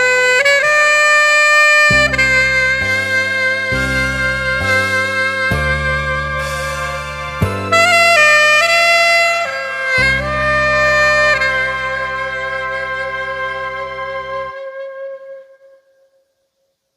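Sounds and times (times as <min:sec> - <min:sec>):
saxophone playing a ballad: 0:00.0 - 0:15.9
backing track: 0:01.4 - 0:15.3.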